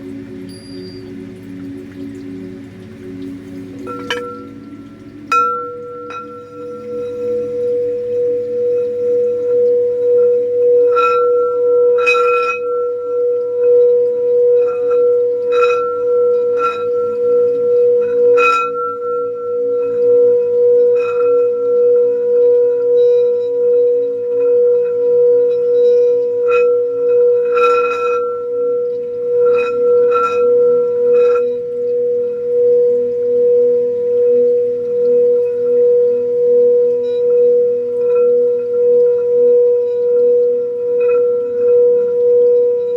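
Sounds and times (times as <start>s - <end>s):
singing bowl ringing: 0.0s - 42.9s
singing bowl strikes: 0.0s - 42.9s.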